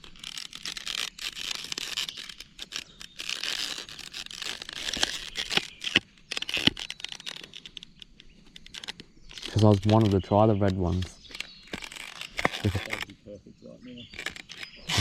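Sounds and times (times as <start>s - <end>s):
plastic crinkling and rustling: 0.0s - 13.1s, 14.0s - 15.0s
small clicks and scrapes: 0.0s - 13.2s, 14.0s - 15.0s.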